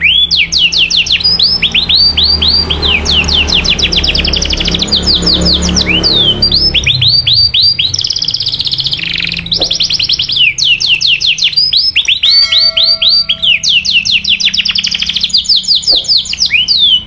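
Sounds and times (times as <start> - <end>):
canary singing falling chirps: 0.0 - 17.0.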